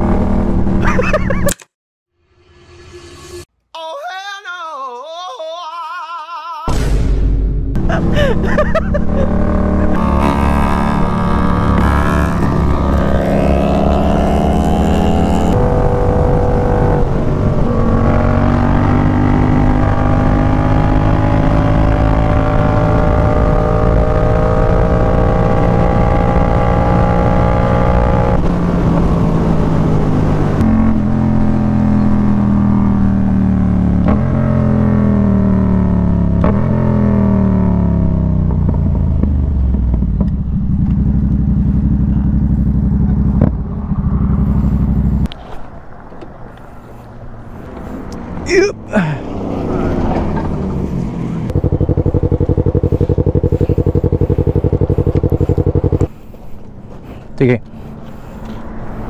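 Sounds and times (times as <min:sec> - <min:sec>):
motorcycle engine revving: 0:00.0 - 0:01.0, 0:07.7 - 0:45.4, 0:46.6 - 0:59.0.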